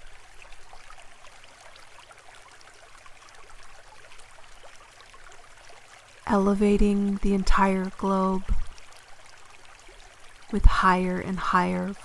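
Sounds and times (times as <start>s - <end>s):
faint running water: 0.0s - 12.0s
low steady hum: 0.0s - 12.0s.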